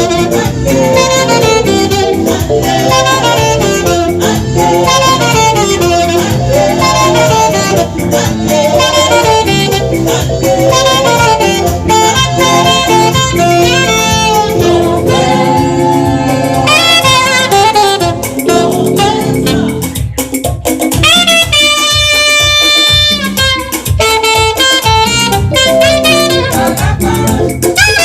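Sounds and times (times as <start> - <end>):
saxophone melody: 0.0 - 20.2, 20.9 - 28.0
gospel backing band: 0.0 - 28.0.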